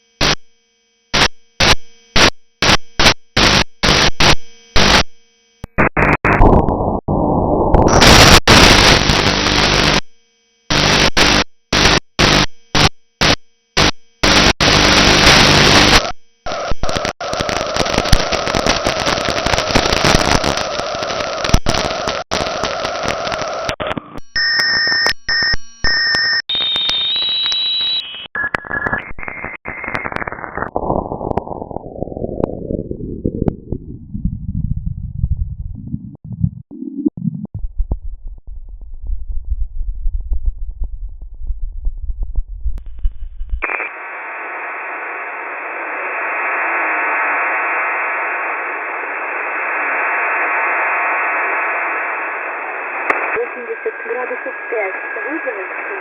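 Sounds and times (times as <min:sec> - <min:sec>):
shortwave radio static: 0:00.0 - 0:00.4, 0:01.0 - 0:33.3, 0:42.8 - 0:56.0.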